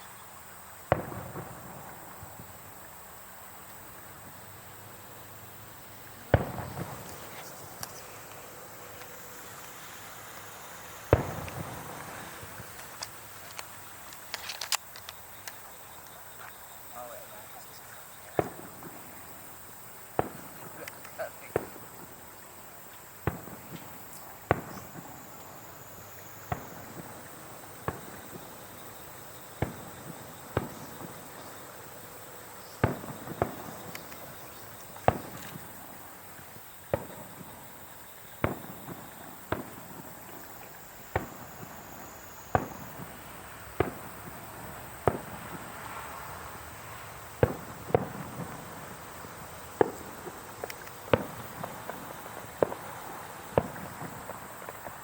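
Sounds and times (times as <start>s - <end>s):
fireworks banging: 0.8s - 16.2s, 16.9s - 55.0s.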